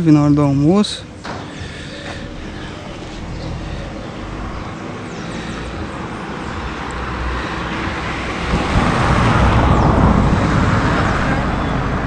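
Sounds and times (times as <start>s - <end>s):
passing vehicle rumble: 0.0s - 12.0s.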